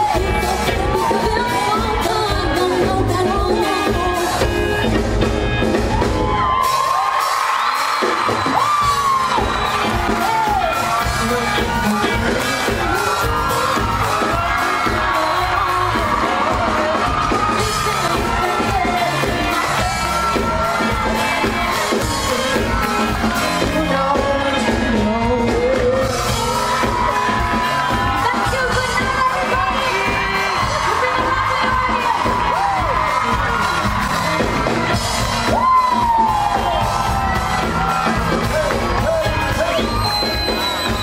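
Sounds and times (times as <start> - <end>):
band accompaniment: 0.0 - 41.0
crowd whooping and shouting: 0.0 - 41.0
drum beat: 0.0 - 41.0.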